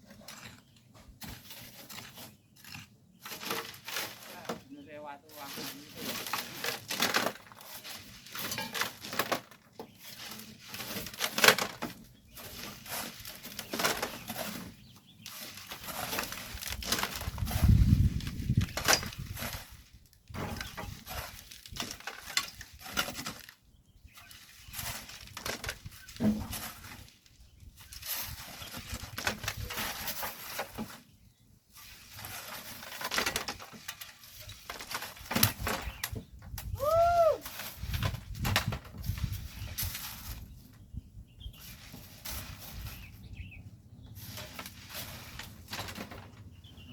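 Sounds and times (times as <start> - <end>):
shovels scraping gravel: 0.0 - 40.8, 41.4 - 46.9.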